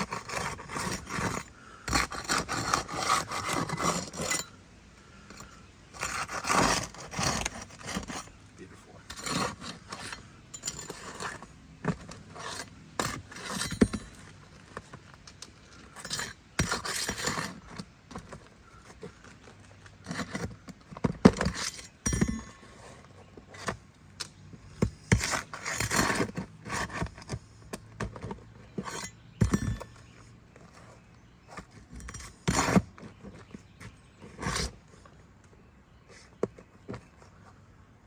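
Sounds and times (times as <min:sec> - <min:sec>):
tool scraping roof shingles: 0:00.0 - 0:04.5, 0:05.4 - 0:08.4, 0:09.0 - 0:23.9, 0:24.6 - 0:35.1.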